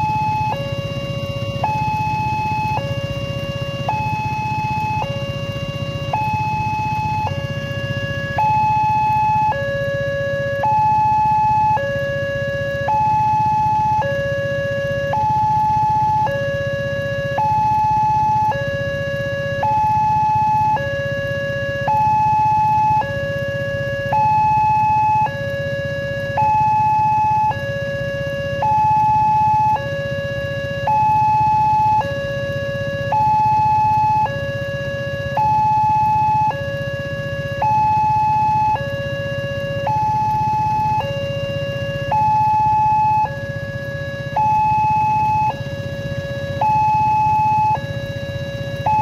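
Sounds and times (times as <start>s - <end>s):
level crossing two-tone alarm: 0.0s - 49.0s.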